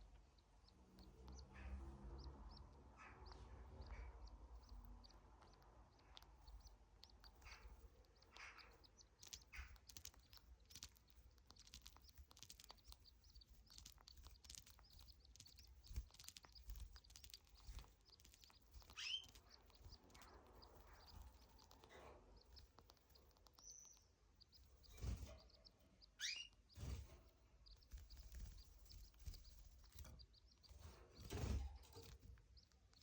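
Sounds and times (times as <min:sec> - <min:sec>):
canary chirping: 0:00.0 - 0:33.0.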